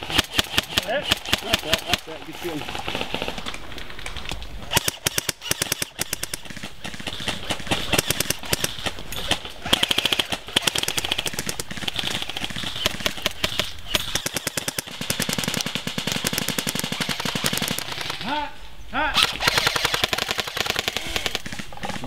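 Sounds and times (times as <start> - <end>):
airsoft rifles firing bursts: 0.0 - 3.5, 4.7 - 18.3, 19.2 - 22.0.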